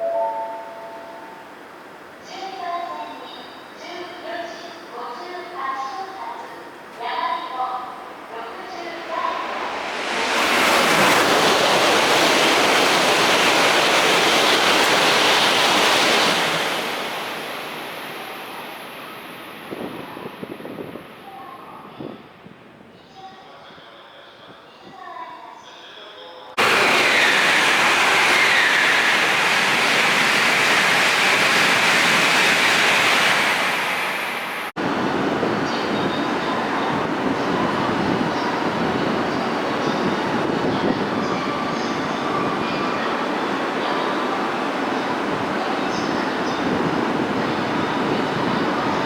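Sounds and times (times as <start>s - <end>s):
high-speed train passing: 0.0s - 22.9s, 26.5s - 49.0s.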